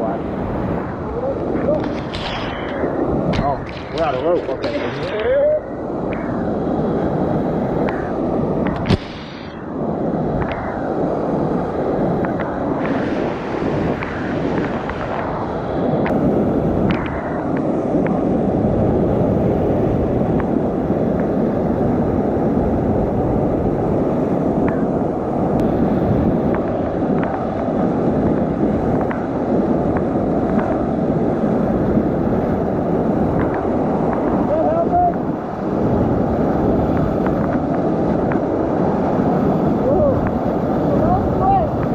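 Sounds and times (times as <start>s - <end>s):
whitewater rushing: 0.0s - 41.9s.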